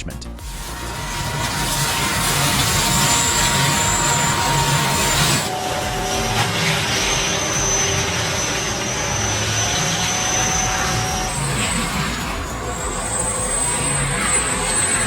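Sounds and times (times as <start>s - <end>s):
high machine whine: 0.0s - 15.0s
low engine rumble: 0.0s - 15.0s.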